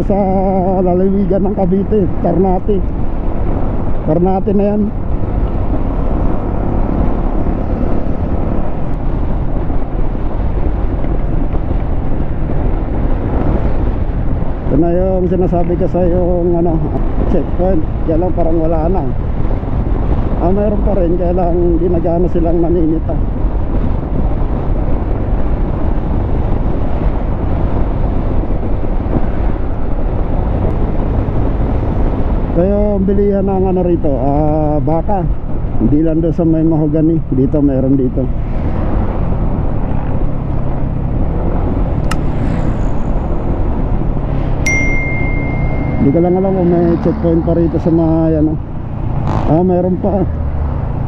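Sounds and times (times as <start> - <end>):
road noise: 0.0 - 51.0
wind rush over microphone: 0.0 - 51.0.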